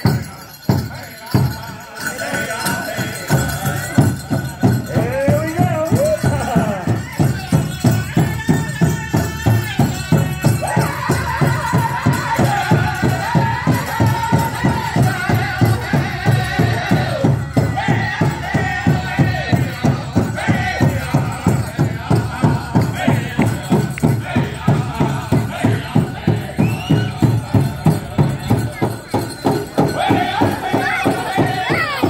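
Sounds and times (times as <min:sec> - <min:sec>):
big drum fast beat: 0:00.0 - 0:32.0
voices singing in chorus: 0:00.0 - 0:32.0.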